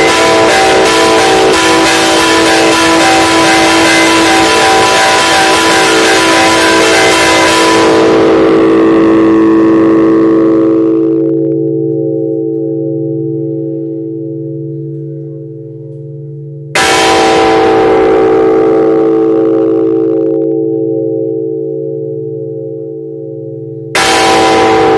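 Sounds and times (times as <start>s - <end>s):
church bell tolling: 0.0s - 24.9s.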